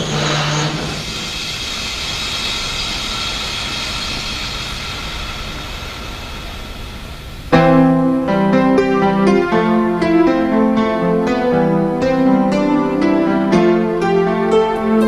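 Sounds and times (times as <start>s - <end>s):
cartoon train rushing and rumbling: 0.0s - 15.0s.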